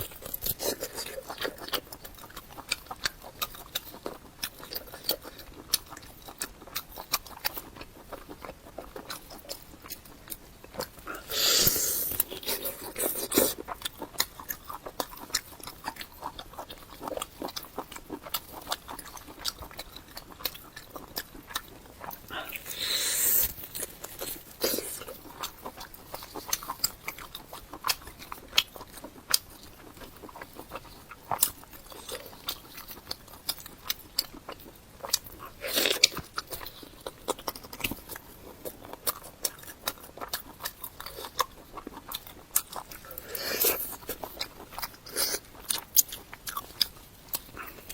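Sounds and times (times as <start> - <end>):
chewing and biting: 0.0 - 47.9.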